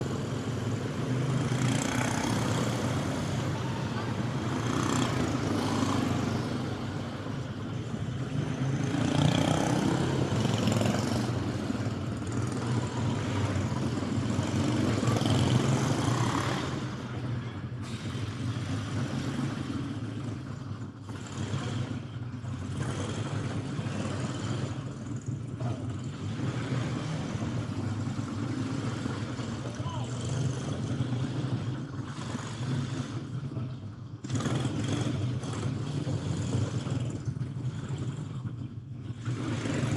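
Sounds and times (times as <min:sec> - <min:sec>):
racing kart engines passing: 0:00.0 - 0:39.9.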